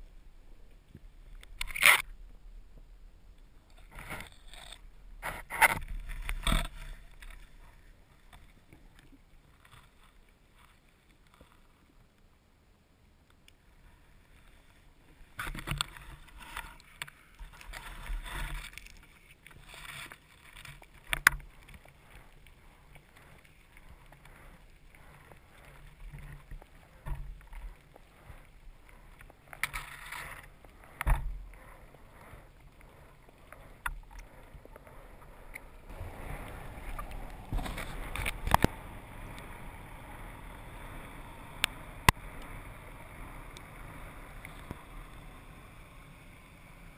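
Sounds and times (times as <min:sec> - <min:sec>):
underwater water movement: 0:00.5 - 0:12.1, 0:13.6 - 0:46.9.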